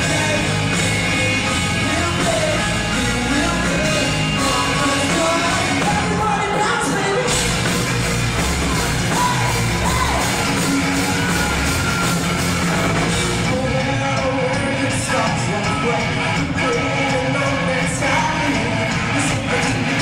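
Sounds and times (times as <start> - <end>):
person singing: 0.0 - 7.5, 8.6 - 11.6, 13.3 - 20.0
live rock band playing: 0.0 - 20.0.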